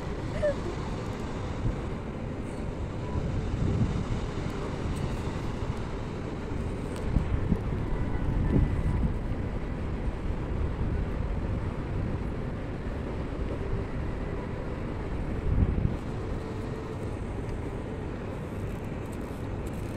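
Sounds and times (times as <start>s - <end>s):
outdoor noise: 0.0s - 19.9s
wind buffeting microphone: 0.0s - 19.9s.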